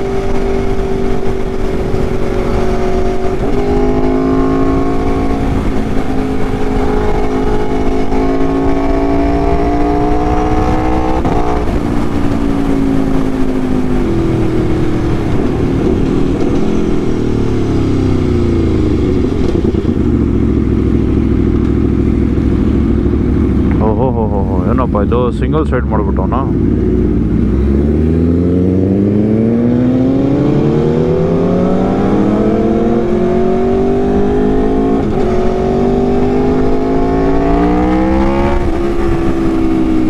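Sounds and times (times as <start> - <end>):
motorcycle engine revving: 0.0 - 24.6, 26.5 - 40.0.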